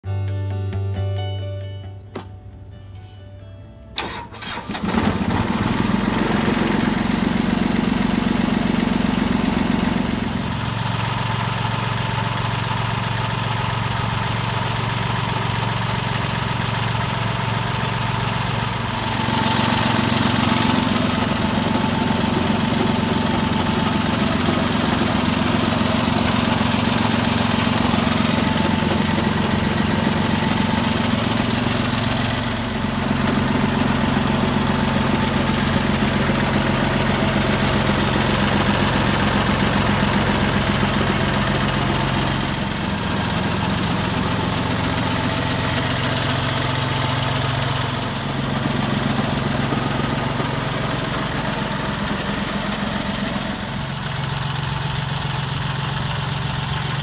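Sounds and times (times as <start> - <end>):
tractor diesel engine running: 2.1 - 57.0.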